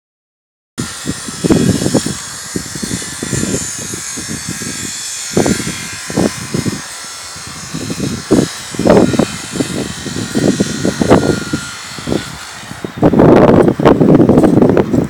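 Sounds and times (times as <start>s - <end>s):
electric motor whirring: 0.8s - 15.0s.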